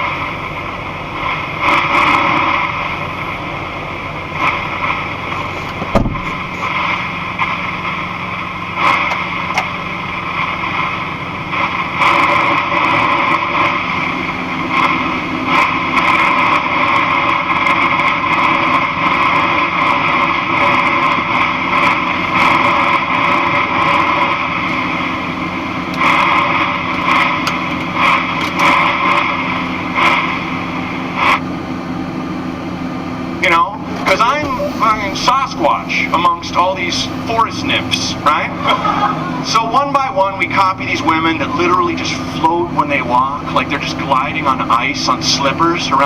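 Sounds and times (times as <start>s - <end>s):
road noise: 0.0s - 46.0s
truck engine: 0.0s - 46.0s.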